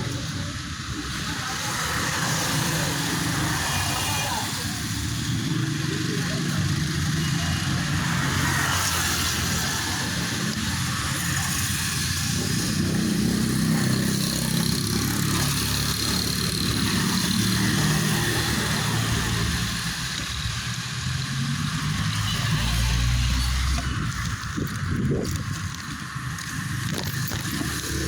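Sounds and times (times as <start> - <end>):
road and wind noise: 0.0 - 28.0
vehicle engine running: 4.4 - 28.0.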